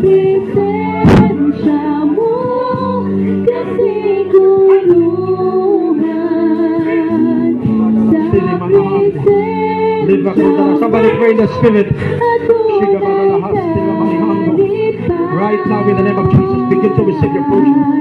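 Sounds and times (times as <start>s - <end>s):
worship singing with band: 0.0s - 18.0s.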